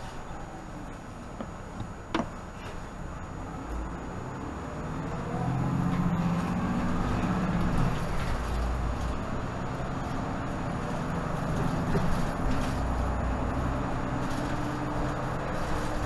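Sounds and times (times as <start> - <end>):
bus engine and drivetrain whine: 0.0 - 16.0.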